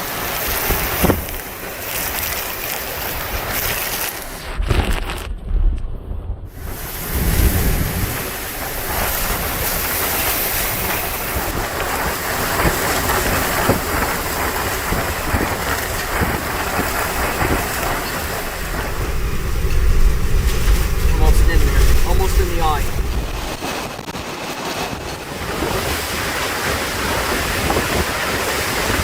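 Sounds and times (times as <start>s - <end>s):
heavy rain and wind rushing: 0.0s - 29.0s
wind buffeting microphone: 0.0s - 29.0s.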